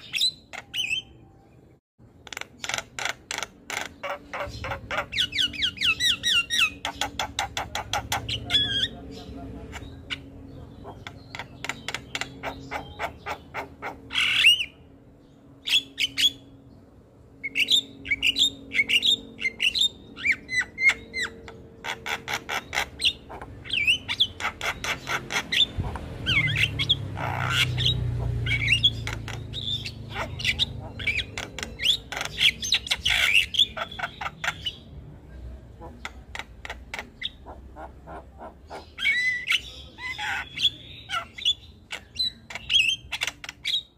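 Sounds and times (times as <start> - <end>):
bird chattering and whistling: 0.0 - 1.2, 2.3 - 14.8, 15.6 - 16.5, 17.4 - 34.9, 35.7 - 43.9.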